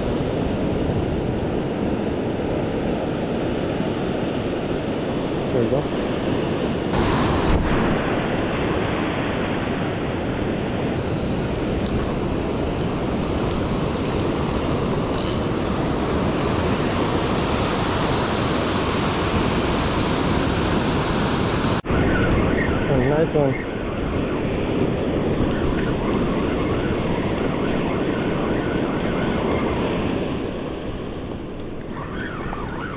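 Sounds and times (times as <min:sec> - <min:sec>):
ocean surf washing on shore: 0:00.0 - 0:32.9
wind buffeting microphone: 0:00.0 - 0:32.9.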